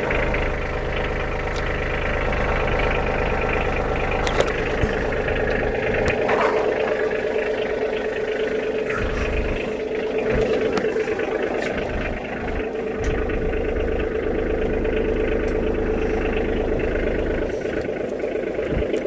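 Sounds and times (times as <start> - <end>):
engine running steadily: 0.0 - 19.0
low rumble: 0.0 - 19.0.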